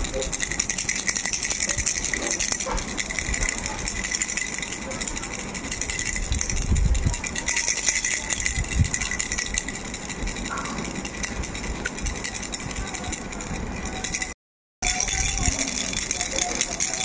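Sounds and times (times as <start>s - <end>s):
baby rattle shaking: 0.0s - 17.0s.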